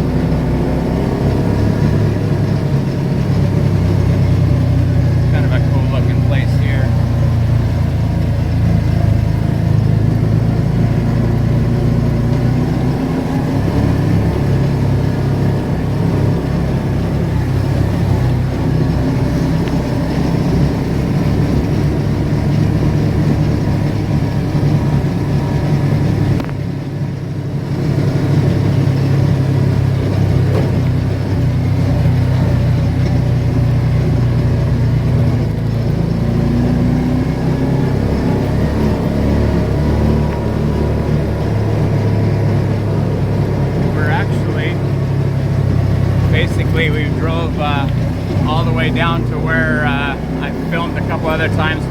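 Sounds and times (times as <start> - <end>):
car engine and road noise: 0.0 - 51.9.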